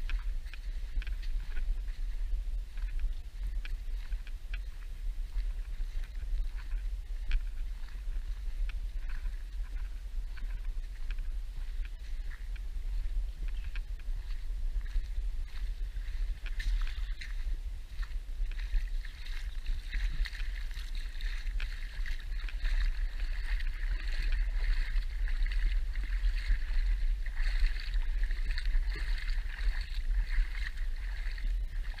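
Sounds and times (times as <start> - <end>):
low rumble: 0.0 - 32.0
water lapping over sand: 0.0 - 32.0.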